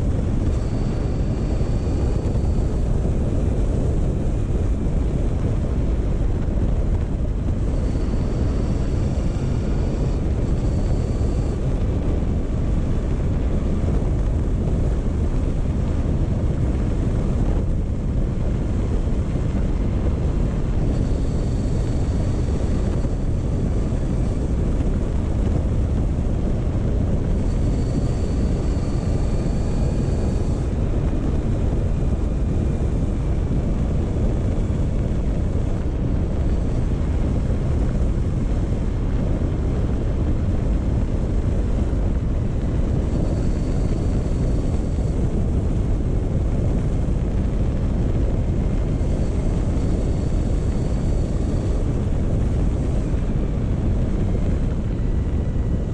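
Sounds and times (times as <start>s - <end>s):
faint high whine: 0.0s - 55.9s
wind rumble on microphone: 0.0s - 55.9s.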